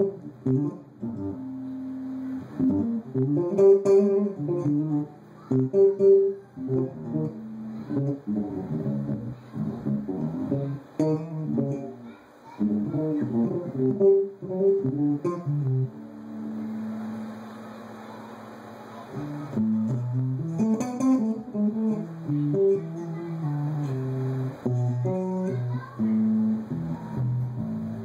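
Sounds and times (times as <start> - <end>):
electric bass guitar notes: 0.0 - 28.0.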